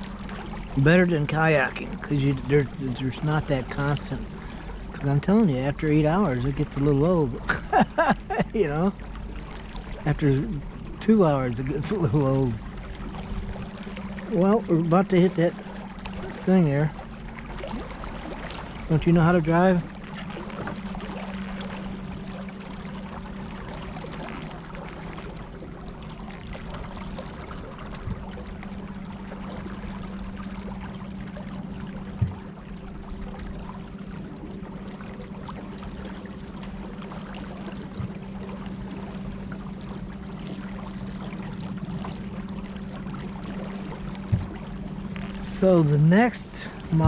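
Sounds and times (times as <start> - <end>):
electric boat motor humming: 0.0 - 47.0
water trickling and splashing: 0.0 - 47.0.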